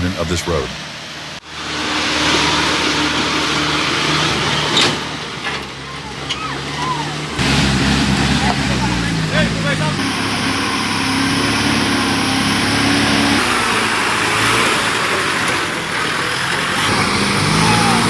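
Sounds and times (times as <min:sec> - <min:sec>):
engine running under load: 0:00.0 - 0:18.0
rough rushing noise: 0:00.0 - 0:18.0.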